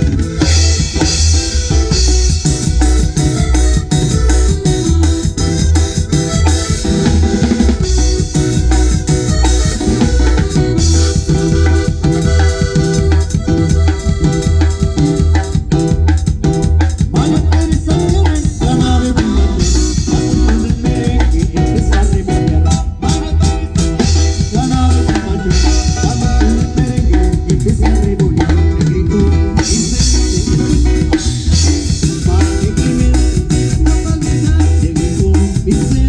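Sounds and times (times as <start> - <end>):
bass line: 0.0 - 36.0
loud drum-led music: 0.0 - 36.0.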